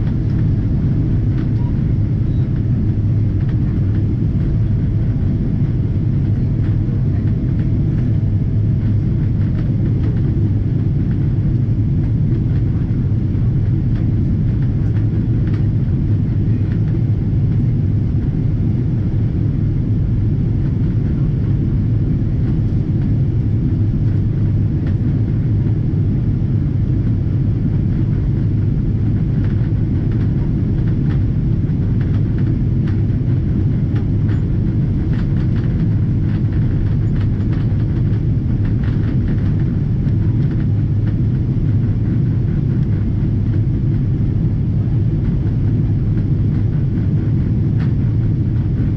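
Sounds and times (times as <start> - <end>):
airplane cabin rumble: 0.0 - 48.9.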